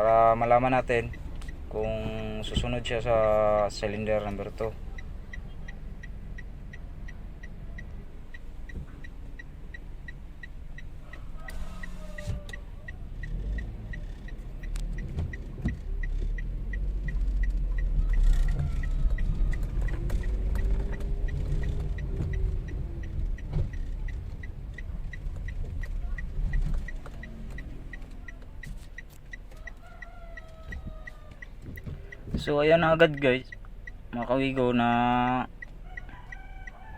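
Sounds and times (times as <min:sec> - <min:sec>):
car engine and road rumble: 0:00.0 - 0:36.9
quick ticking: 0:00.3 - 0:36.8.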